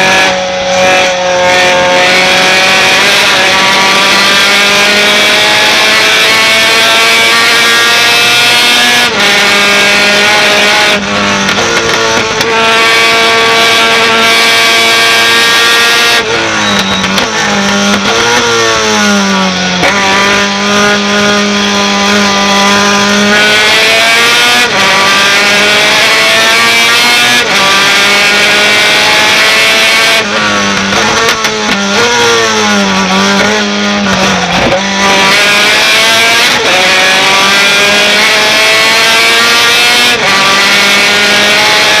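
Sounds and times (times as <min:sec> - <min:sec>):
truck engine at full throttle: 0:00.0 - 0:42.0.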